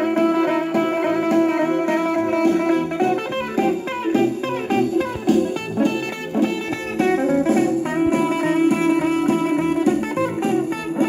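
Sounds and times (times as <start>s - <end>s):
rockabilly guitar record: 0.0s - 11.0s.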